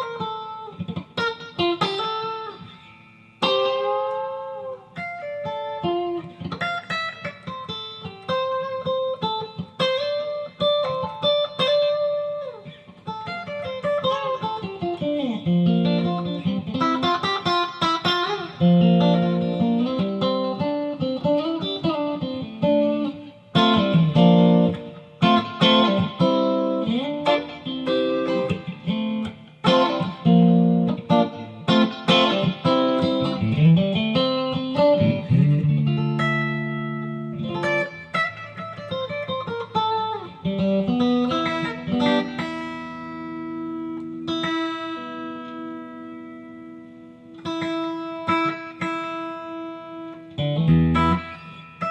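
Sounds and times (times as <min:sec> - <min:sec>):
electric guitar with string bends: 0:00.0 - 0:51.9.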